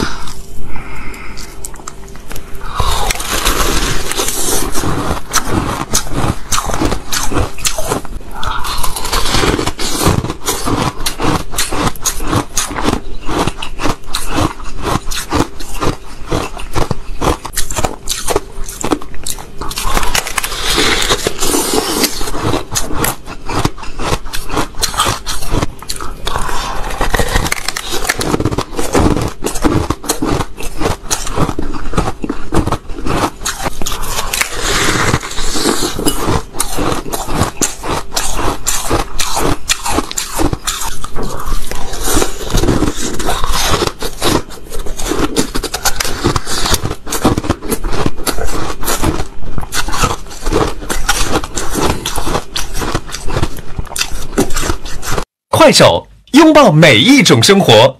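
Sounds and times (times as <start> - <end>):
chewing crunchy ice: 0.0 - 55.3.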